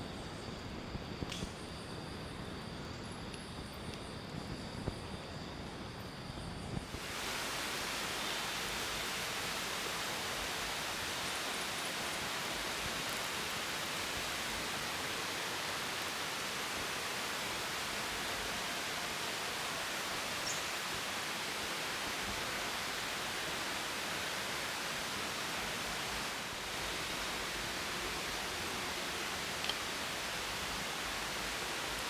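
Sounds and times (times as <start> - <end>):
outdoor ambient hiss: 0.0 - 32.0.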